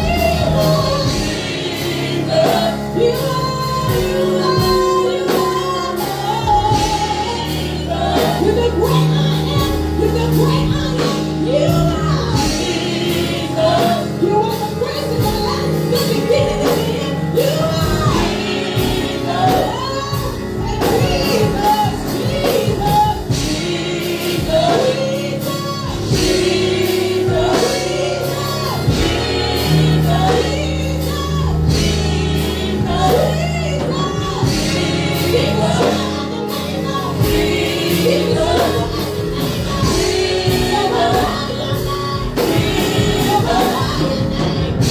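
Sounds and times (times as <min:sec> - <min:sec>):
gospel choir singing with accompaniment: 0:00.0 - 0:44.9.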